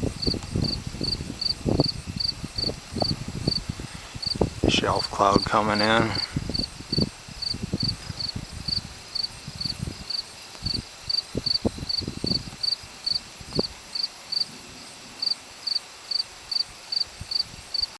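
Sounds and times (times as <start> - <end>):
insects chirping: 0.0 - 17.9.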